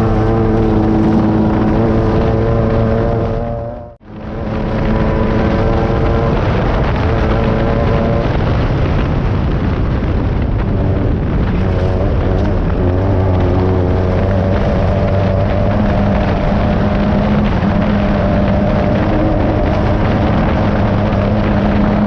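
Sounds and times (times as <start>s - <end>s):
chassis clattering over rough ground: 0.0s - 22.0s
race buggy engine running hard: 0.0s - 22.0s.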